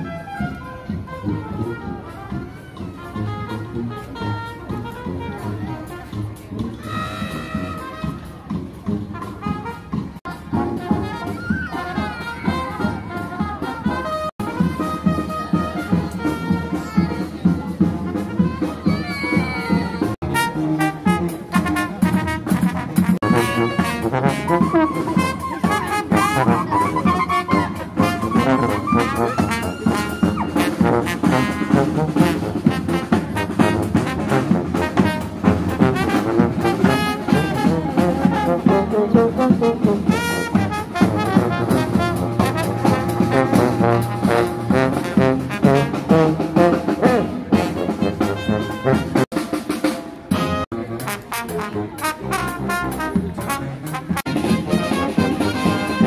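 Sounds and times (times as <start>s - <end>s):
jazzy brass band music: 0.0s - 56.0s.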